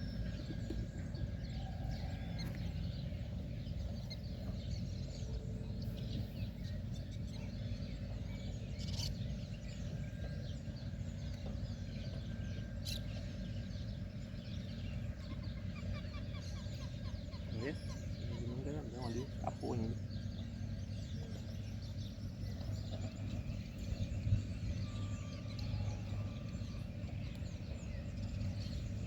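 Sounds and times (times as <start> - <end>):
steady low rumble: 0.0 - 12.0, 12.6 - 29.0
birds calling faintly: 0.0 - 29.0
faint constant hum: 0.0 - 29.0.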